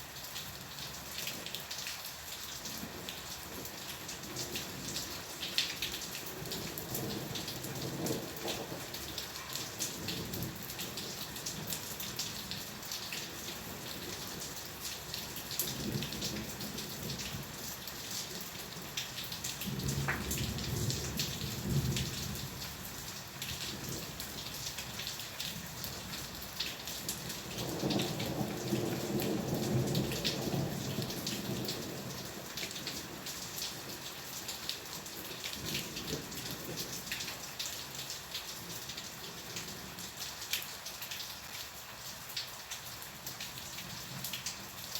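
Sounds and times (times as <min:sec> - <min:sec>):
steady rain pattering: 0:00.0 - 0:44.9.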